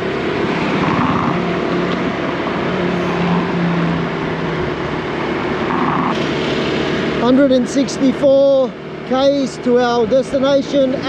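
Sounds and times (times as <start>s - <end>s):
constant rushing noise: 0.0s - 11.0s
scooter engine running: 0.0s - 11.0s.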